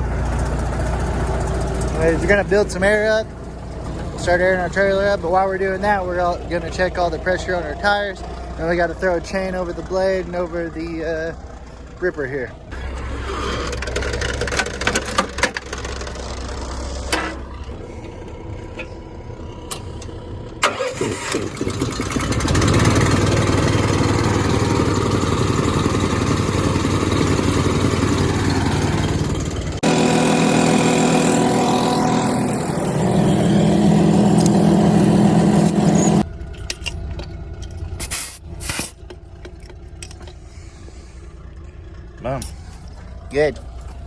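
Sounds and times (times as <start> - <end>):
diesel truck engine running: 0.0 - 44.0.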